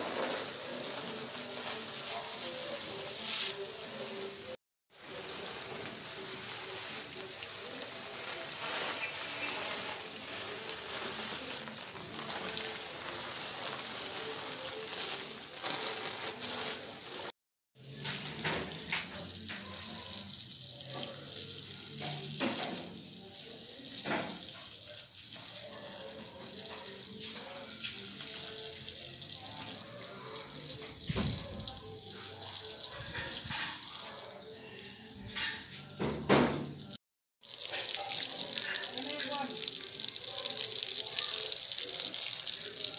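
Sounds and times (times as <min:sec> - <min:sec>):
garden hose spraying water: 0:00.0 - 0:35.8, 0:36.4 - 0:42.9.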